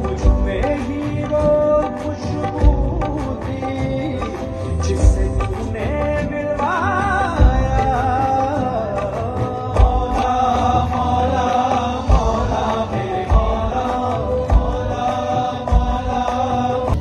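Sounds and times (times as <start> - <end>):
deep drum beat: 0.0 - 17.0
live band: 0.0 - 17.0
men singing chant-like melody: 0.0 - 17.0.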